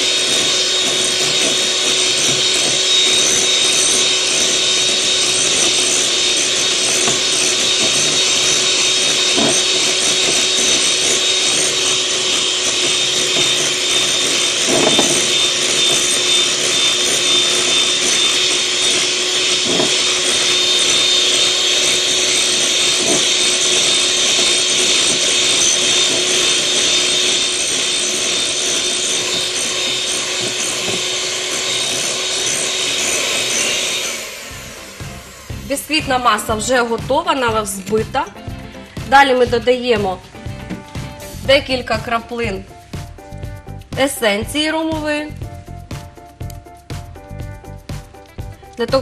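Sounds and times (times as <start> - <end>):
electric hand mixer whirring: 0.0 - 49.0.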